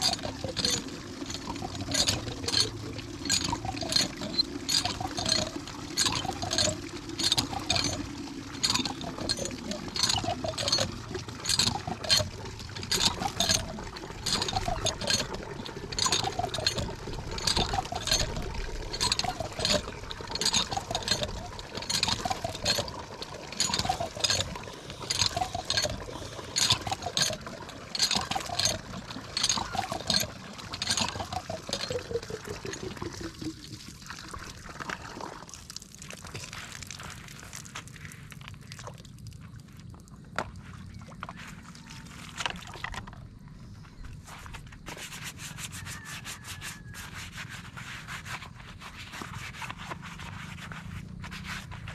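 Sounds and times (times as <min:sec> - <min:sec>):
hand water pump clanking: 0:00.0 - 0:37.9, 0:40.3 - 0:51.9
water pouring from spout: 0:00.0 - 0:43.4.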